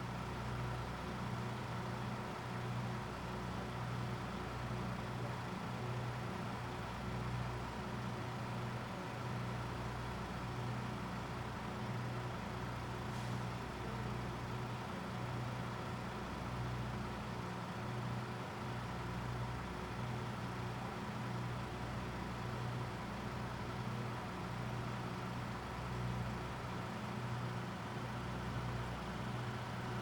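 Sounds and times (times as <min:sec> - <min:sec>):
diesel railcar engine idling: 0:00.0 - 0:30.0.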